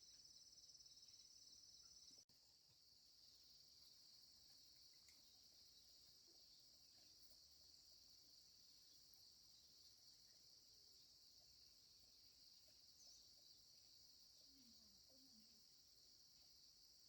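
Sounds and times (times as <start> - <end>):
insects chirping drone: 0.0 - 17.0.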